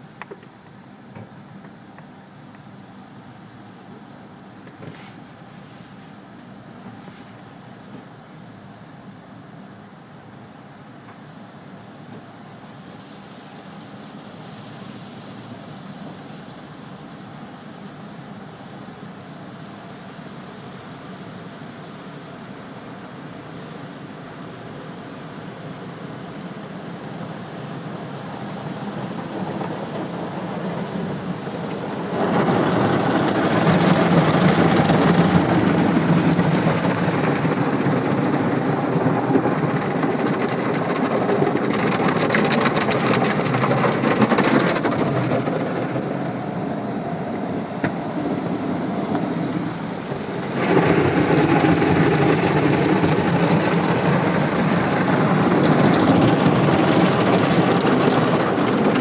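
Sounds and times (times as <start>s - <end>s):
car wash spraying water: 0.0s - 59.0s.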